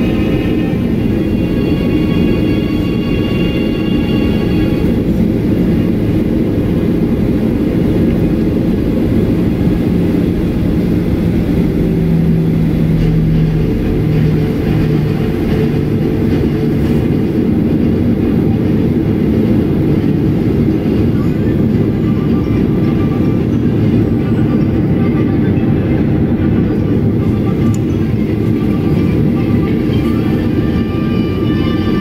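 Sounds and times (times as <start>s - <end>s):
airplane engines rumbling at idle: 0.0s - 32.0s
low hum: 0.0s - 32.0s.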